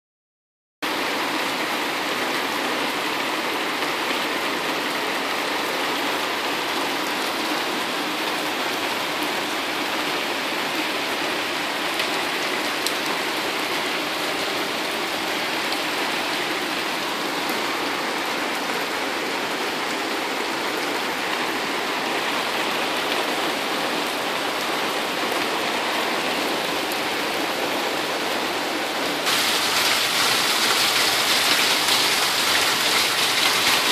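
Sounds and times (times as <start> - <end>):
heavy rain pouring: 0.8 - 33.9.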